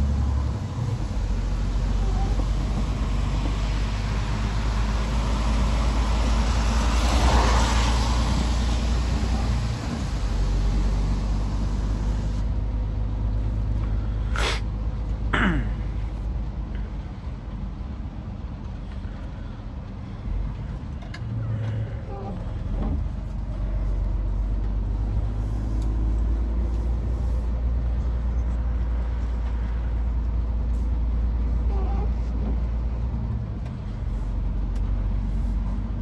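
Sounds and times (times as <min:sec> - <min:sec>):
road and tyre noise: 0:00.0 - 0:36.0
truck engine hum: 0:00.0 - 0:36.0.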